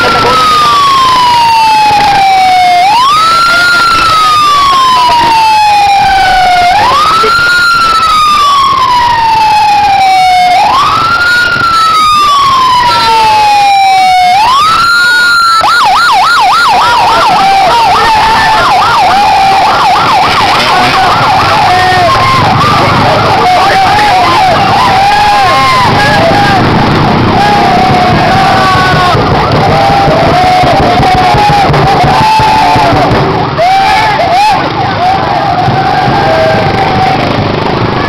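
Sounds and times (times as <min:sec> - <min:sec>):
faint gliding siren tones: 0:00.0 - 0:31.6
police siren wailing and yelping: 0:00.0 - 0:38.0.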